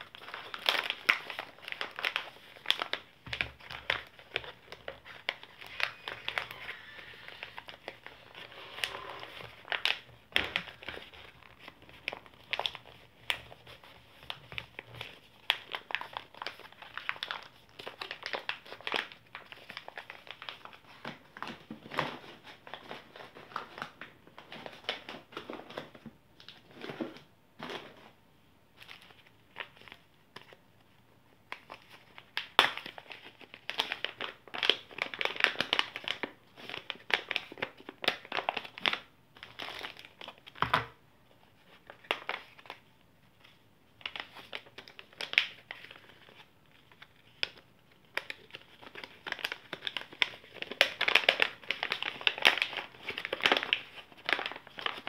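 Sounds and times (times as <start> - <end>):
packaging pouches crinkling: 0.0 - 27.0, 28.8 - 30.6, 31.5 - 55.0.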